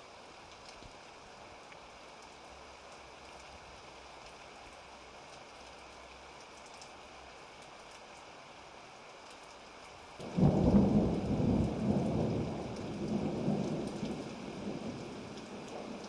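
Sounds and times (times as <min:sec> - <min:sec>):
faint rain falling: 0:00.0 - 0:16.0.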